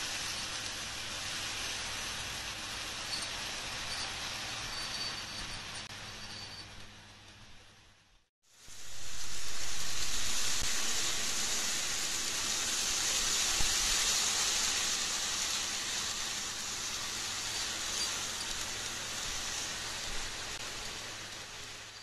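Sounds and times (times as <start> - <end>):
model train running on track: 0.0 - 7.9, 8.6 - 22.0.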